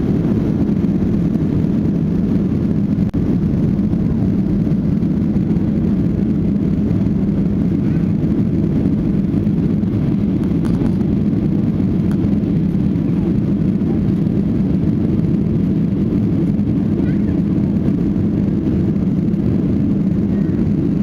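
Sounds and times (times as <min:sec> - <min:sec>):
jet engine roar in cabin: 0:00.0 - 0:21.0
rushing air: 0:00.0 - 0:21.0.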